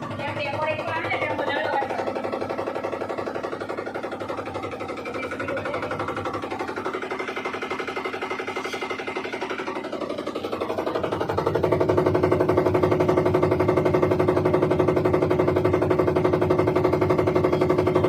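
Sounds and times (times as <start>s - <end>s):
washing machine hum: 0.0s - 18.0s
washing machine rattling: 0.0s - 18.0s.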